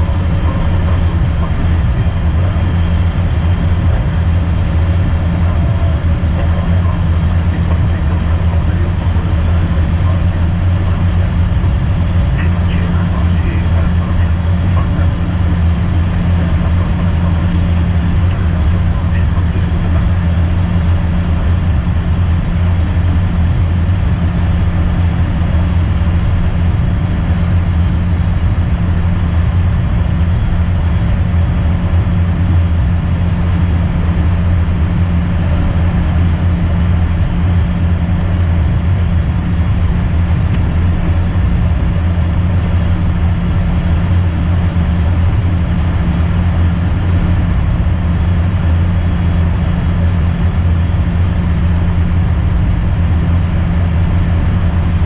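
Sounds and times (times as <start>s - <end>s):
constant low hum: 0.0s - 55.0s
jet engines droning: 0.0s - 55.0s.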